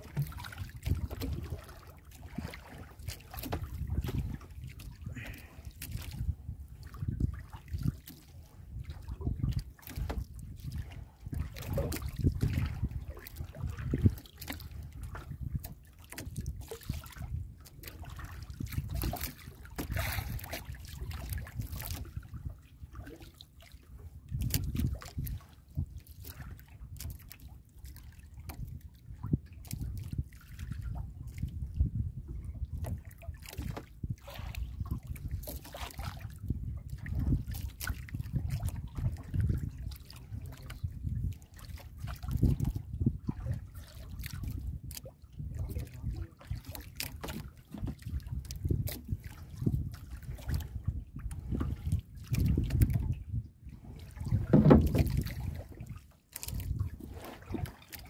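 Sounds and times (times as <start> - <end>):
water lapping against hull: 0.0 - 58.0.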